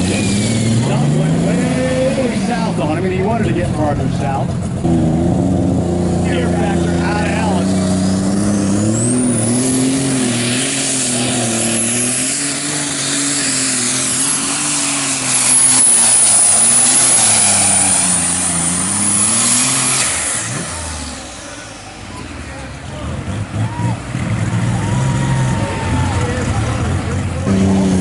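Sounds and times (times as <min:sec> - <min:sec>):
tractor engine running hard: 0:00.0 - 0:28.0.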